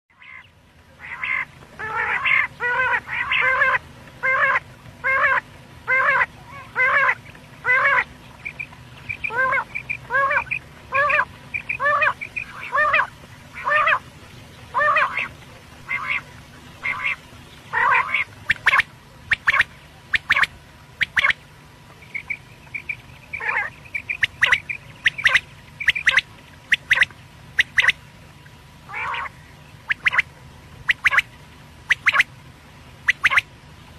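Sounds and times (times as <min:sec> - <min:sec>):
faint steady low hum: 0:00.1 - 0:33.9
quail calling: 0:00.2 - 0:14.0, 0:14.7 - 0:21.4, 0:22.1 - 0:28.0, 0:28.9 - 0:30.3, 0:30.9 - 0:31.3, 0:31.9 - 0:32.3, 0:33.0 - 0:33.5.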